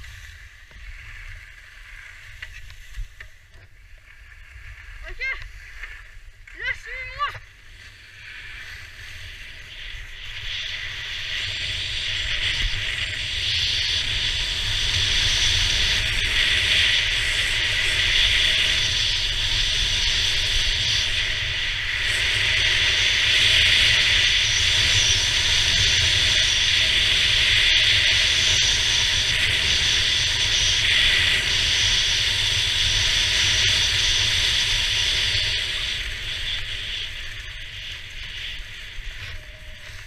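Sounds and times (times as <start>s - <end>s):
skis scraping over snow: 0.0s - 40.0s.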